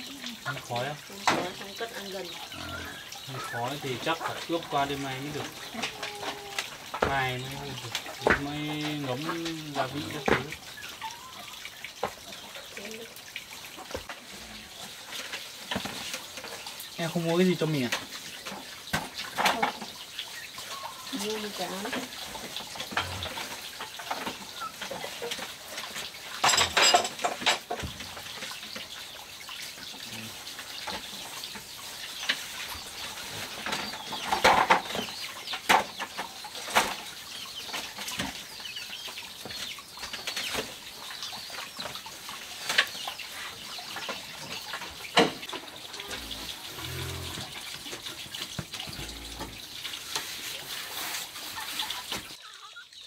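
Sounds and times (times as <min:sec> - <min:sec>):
chickens clucking: 0:00.0 - 0:53.0
trickle of running water: 0:00.0 - 0:53.0.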